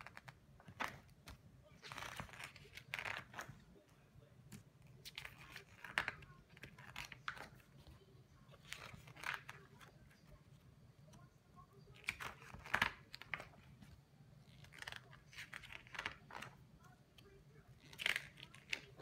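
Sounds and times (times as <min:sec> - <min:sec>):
book pages turning: 0:00.0 - 0:19.0.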